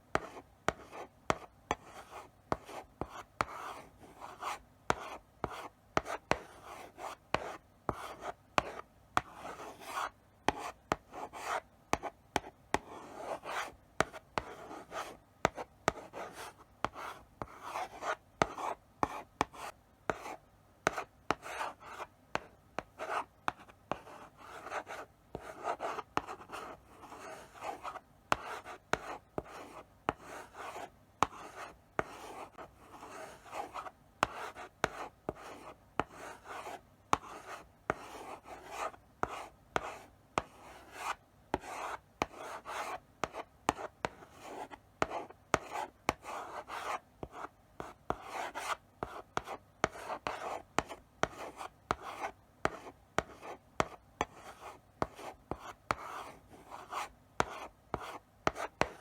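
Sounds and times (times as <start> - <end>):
chalk tapping on board: 0.1 - 3.7, 4.3 - 59.0
chalk scratching on blackboard: 0.1 - 59.0.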